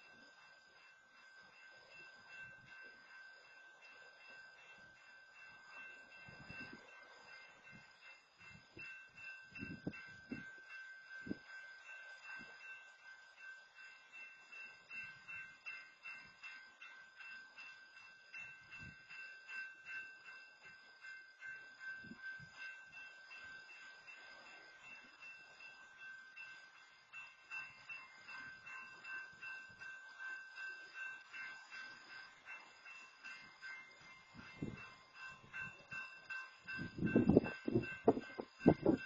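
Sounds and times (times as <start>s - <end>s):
crossing warning bell ringing: 0.0s - 39.0s.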